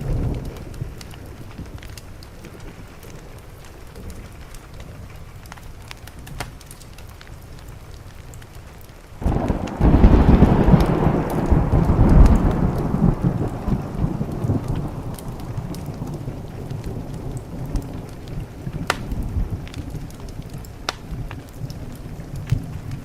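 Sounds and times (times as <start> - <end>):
thunderclap and rumble: 0.0 - 8.0, 9.2 - 23.0
steady rain: 0.0 - 23.0.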